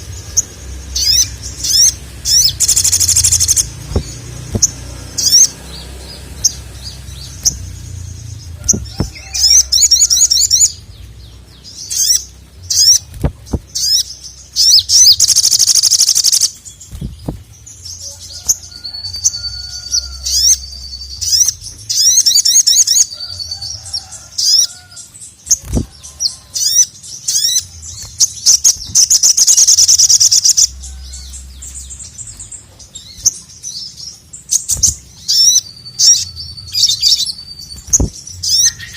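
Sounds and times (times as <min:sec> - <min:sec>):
bird singing rapid high chirps: 0:00.0 - 0:38.9
buzzy bird trills: 0:00.0 - 0:38.9.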